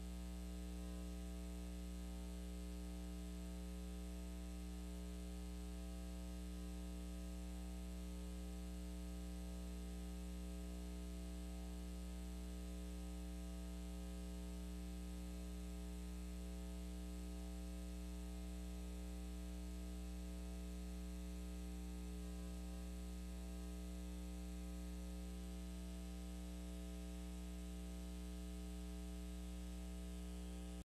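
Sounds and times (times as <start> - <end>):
electrical mains hum: 0.0 - 30.8.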